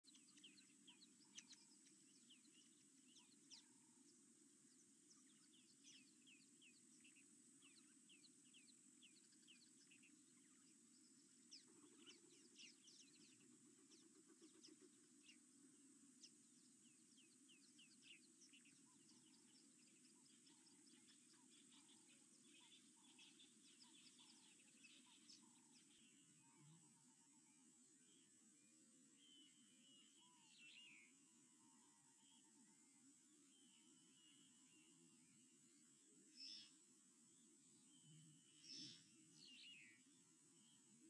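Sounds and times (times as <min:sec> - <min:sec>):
birds chirping: 0:00.0 - 0:41.0
low outdoor background noise: 0:00.0 - 0:41.0.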